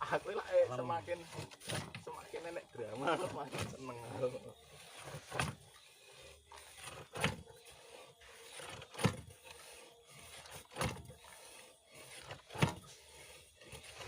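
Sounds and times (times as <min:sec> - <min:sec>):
drill pipe rushing strokes: 0:00.0 - 0:14.0.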